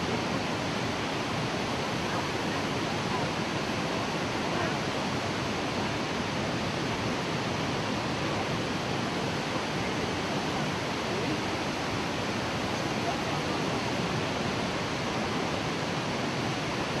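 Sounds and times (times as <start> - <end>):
rushing whitewater: 0.0 - 17.0.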